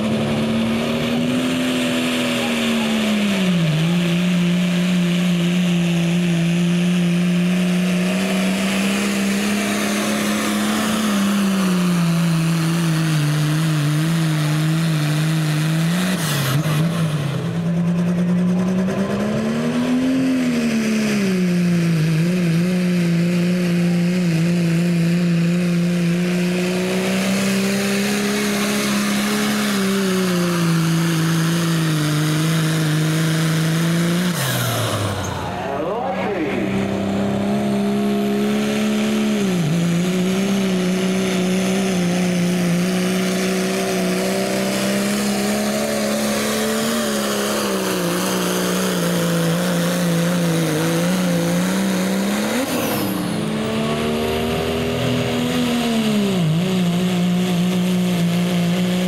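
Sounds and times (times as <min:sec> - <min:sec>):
diesel truck engines revving: 0:00.0 - 0:59.0.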